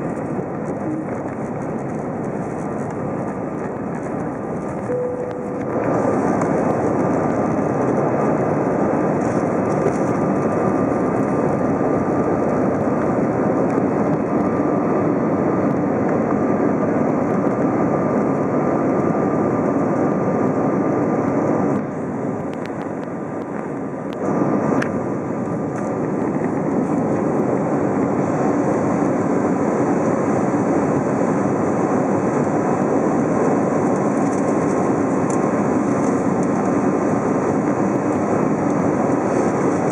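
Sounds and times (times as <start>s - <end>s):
jet engine cabin rush: 0.0s - 39.9s.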